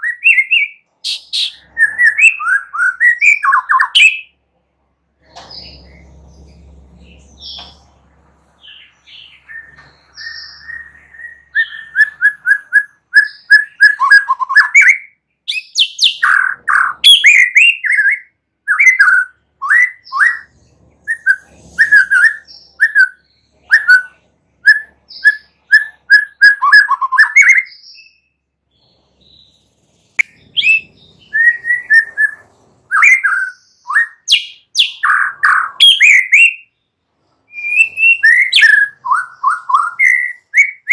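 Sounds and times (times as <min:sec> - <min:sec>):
bird singing whistled song: 0:00.0 - 0:04.3, 0:08.6 - 0:28.4, 0:30.2 - 0:36.8, 0:37.5 - 0:40.9.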